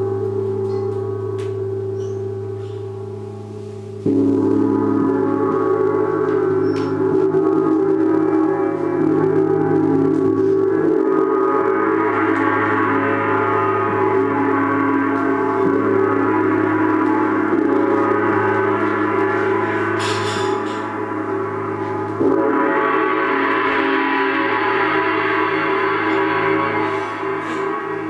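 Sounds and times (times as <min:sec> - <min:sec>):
large gong ringing: 0:00.0 - 0:28.0.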